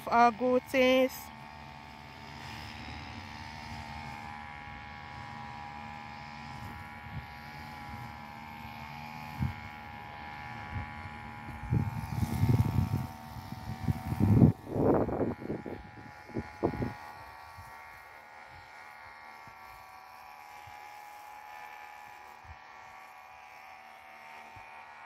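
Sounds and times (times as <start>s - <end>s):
steady motor hum: 0.0s - 25.0s.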